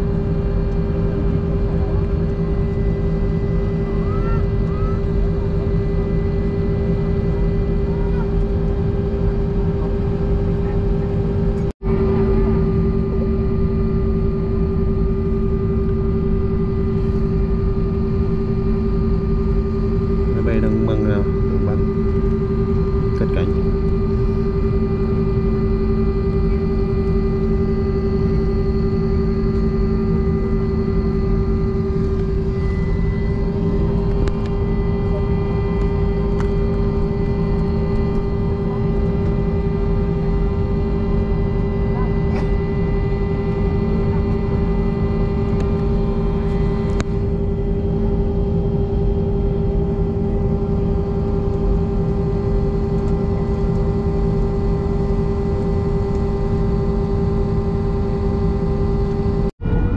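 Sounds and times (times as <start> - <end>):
jet engines running steadily: 0.0 - 59.9.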